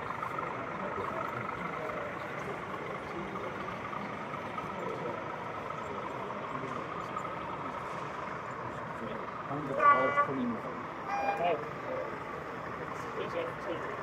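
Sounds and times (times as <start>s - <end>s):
indistinct crowd chatter: 0.0s - 14.0s.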